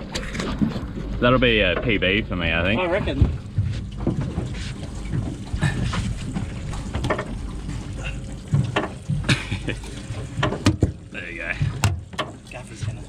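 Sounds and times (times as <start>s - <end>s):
knocks and splashes against boat: 0.0s - 13.0s.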